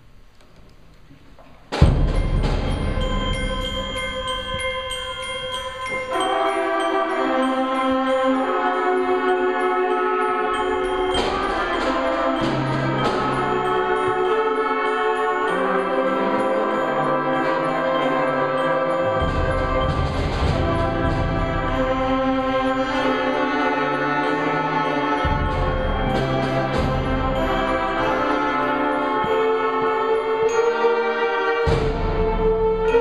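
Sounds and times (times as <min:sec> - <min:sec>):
percussion strikes: 0:01.3 - 0:33.0
concert band playing: 0:01.7 - 0:33.0.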